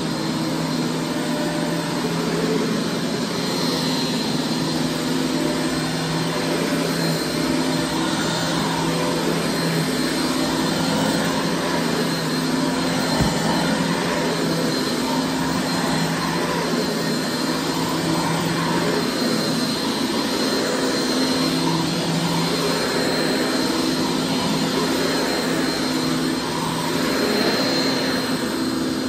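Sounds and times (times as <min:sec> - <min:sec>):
vacuum cleaner running on carpet: 0:00.0 - 0:29.0.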